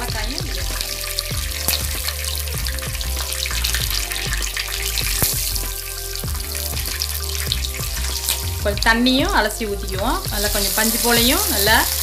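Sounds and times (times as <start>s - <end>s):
background music: 0.0s - 12.0s
banana pieces frying in oil: 0.0s - 12.0s.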